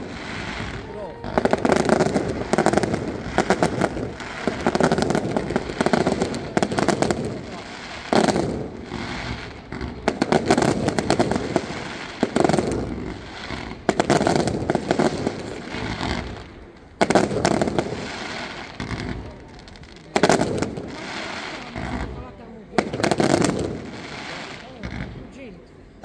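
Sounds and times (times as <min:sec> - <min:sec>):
fireworks bursting with sharp bangs: 0:00.0 - 0:26.0
fireworks crackling: 0:00.0 - 0:26.0.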